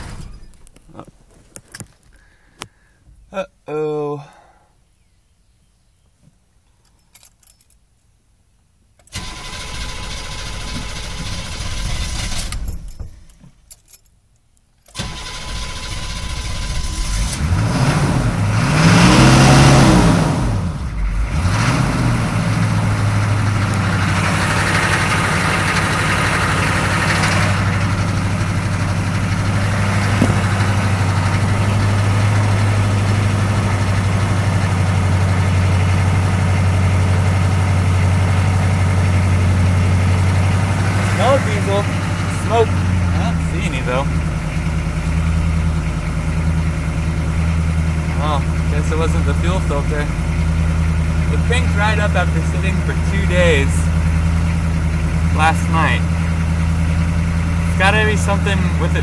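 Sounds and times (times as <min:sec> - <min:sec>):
diesel starter cranking: 0:00.0 - 0:02.8, 0:09.0 - 0:59.0
diesel engine revving and idling: 0:09.1 - 0:12.9, 0:15.0 - 0:59.0.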